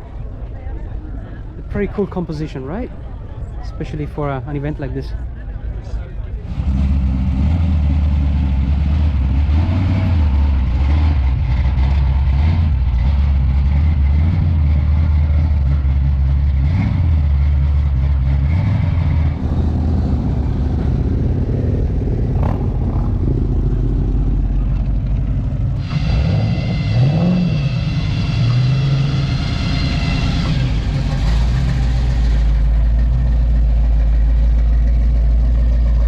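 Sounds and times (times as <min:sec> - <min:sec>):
car engine rumbling at low revs: 0:00.0 - 0:36.0.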